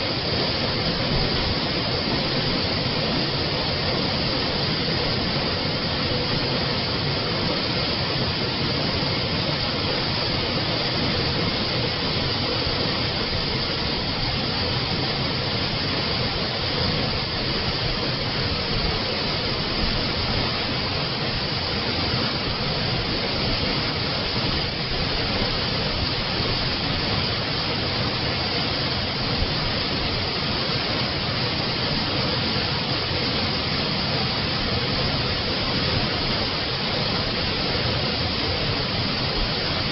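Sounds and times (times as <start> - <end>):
spring water rushing: 0.0 - 39.9.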